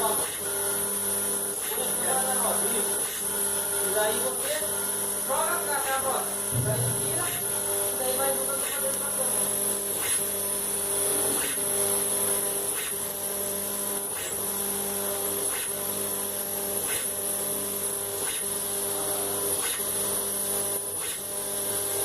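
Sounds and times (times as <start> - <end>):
motor hum and high whine: 0.0 - 22.0.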